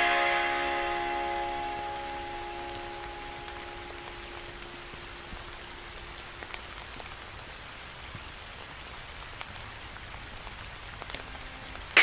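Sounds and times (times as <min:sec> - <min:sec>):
raindrops ticking: 0:00.0 - 0:12.0
steady rain hiss: 0:00.0 - 0:12.0.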